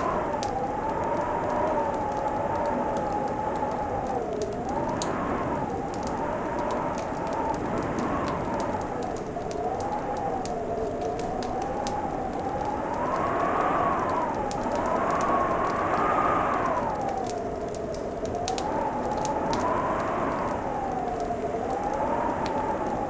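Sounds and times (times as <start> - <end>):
fireplace crackling and popping: 0.0 - 23.0.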